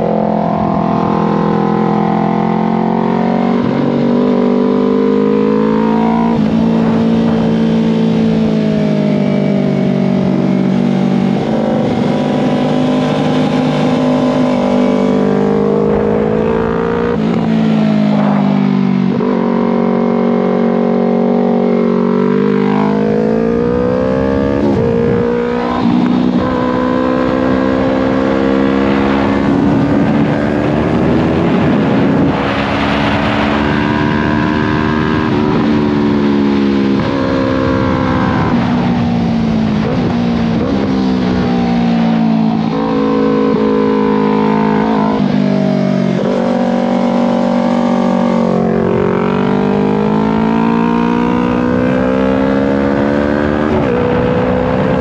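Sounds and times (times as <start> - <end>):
motorcycle engine revving: 0.0 - 55.0
wind on microphone: 5.8 - 55.0.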